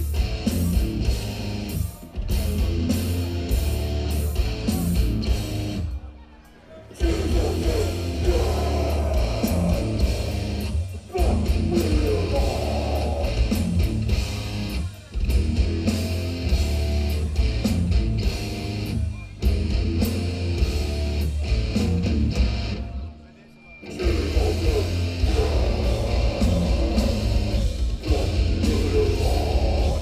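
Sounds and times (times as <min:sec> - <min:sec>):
death metal band playing live: 0:00.0 - 0:05.9, 0:07.0 - 0:23.0, 0:23.8 - 0:30.0.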